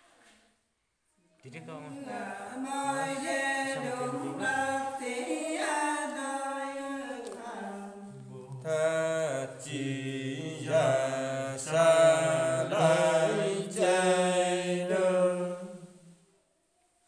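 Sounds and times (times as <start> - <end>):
unaccompanied folk singing: 1.7 - 16.2.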